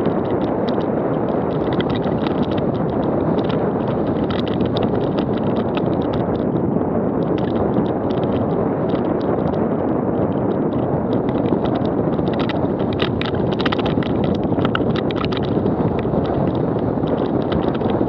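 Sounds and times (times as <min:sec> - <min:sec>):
bike tyre rumble: 0:00.0 - 0:18.0
stones and bike frame rattling: 0:00.0 - 0:18.0
wind buffeting microphone: 0:00.0 - 0:18.0.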